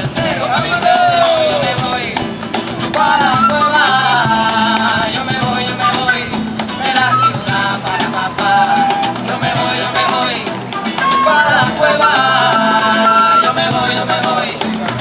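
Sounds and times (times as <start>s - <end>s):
latin band music: 0.0s - 15.0s
percussion beat: 0.0s - 15.0s
person singing: 3.0s - 15.0s.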